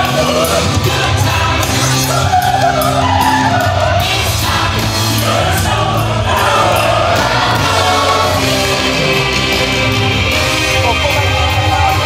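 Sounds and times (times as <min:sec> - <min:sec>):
group of voices singing: 0:00.0 - 0:12.0
steady bass line: 0:00.0 - 0:12.0.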